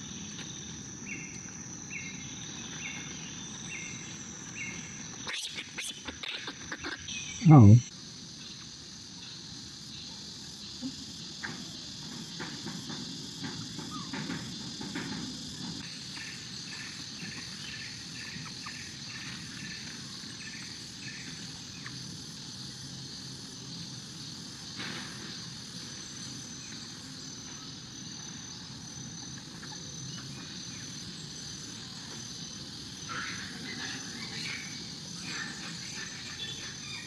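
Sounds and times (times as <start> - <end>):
insects buzzing drone: 0.0 - 37.0.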